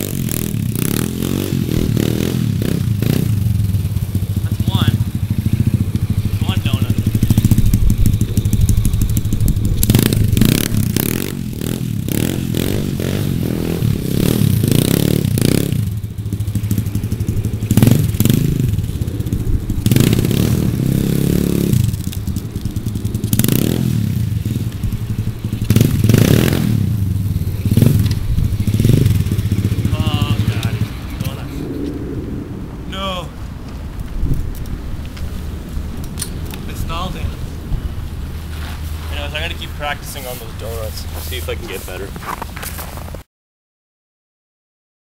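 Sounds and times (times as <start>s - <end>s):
pit bike engine revving: 0.0s - 42.1s.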